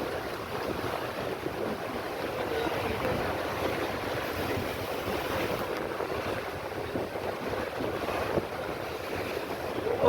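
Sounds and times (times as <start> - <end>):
ocean waves: 0.0 - 10.0
wind buffeting microphone: 0.0 - 10.0.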